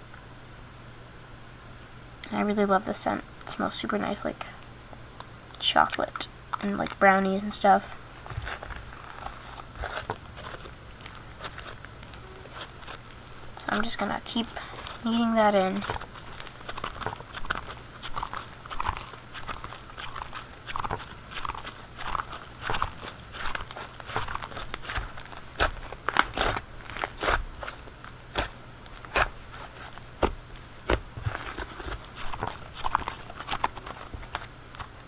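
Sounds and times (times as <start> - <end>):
slime wet crackles and pops: 5.2 - 7.1, 8.6 - 35.0
hands kneading sticky slime: 5.2 - 35.0.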